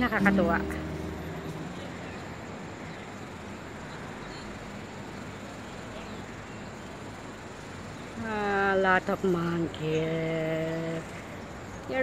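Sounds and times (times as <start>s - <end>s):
distant road traffic hum: 0.0s - 12.0s.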